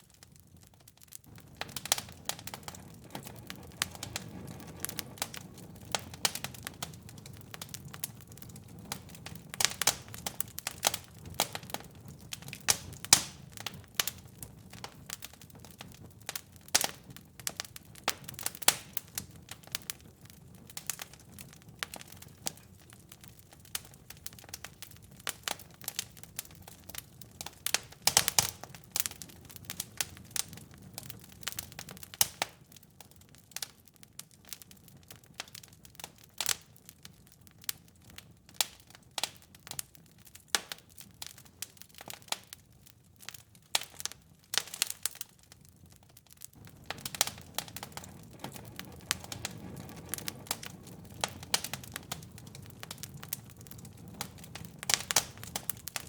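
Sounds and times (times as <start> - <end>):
low rumble of burning: 0.0 - 56.0
wood fire popping and snapping: 0.0 - 56.0.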